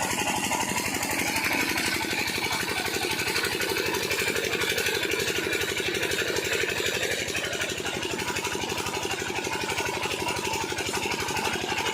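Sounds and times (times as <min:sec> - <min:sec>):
diesel engine chugging: 0:00.0 - 0:11.9.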